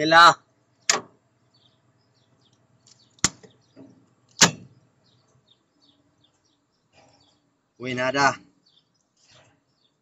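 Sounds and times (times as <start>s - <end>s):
faint bird chirps: 0.7s - 10.0s.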